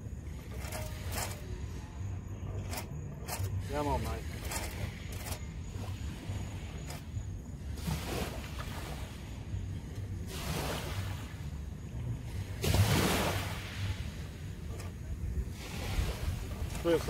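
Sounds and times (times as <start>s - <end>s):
small waves breaking on beach: 2.6s - 9.5s, 10.2s - 17.0s.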